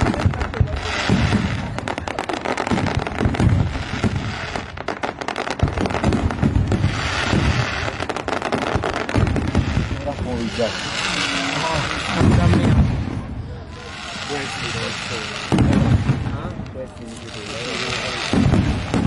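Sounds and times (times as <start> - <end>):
fireworks crackling: 0.0 - 19.0
heavy low firework booms: 0.0 - 19.0.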